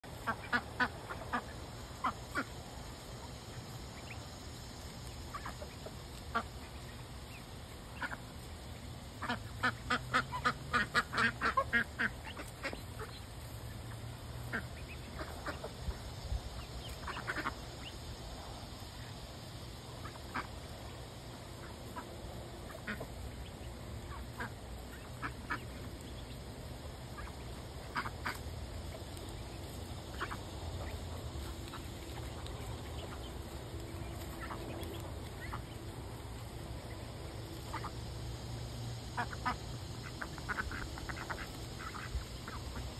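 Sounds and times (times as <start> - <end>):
ducks quacking: 0.1 - 18.0, 19.7 - 38.3, 39.0 - 42.9.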